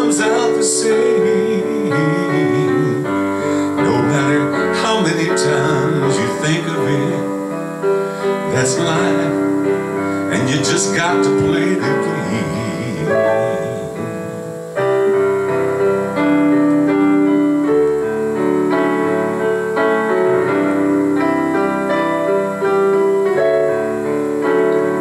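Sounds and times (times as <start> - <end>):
digital piano playing chords: 0.0 - 25.0.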